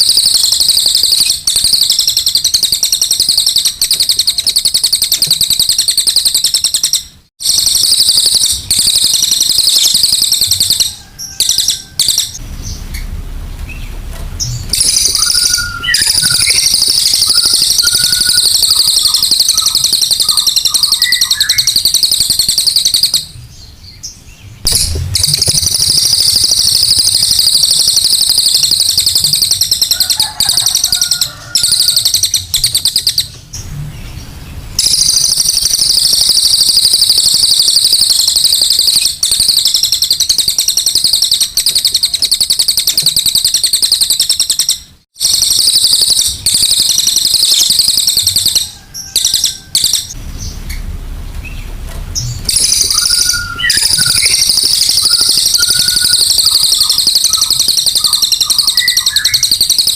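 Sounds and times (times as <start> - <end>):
songbird chattering song: 0.0 - 44.9, 51.4 - 59.9.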